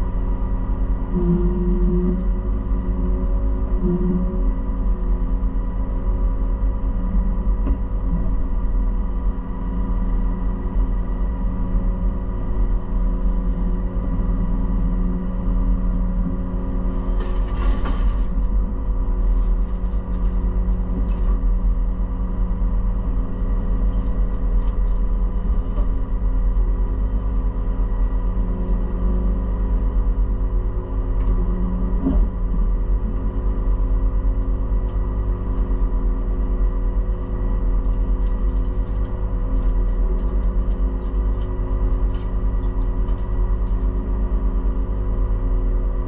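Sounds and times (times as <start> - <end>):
combine harvester engine drone: 0.0 - 46.0.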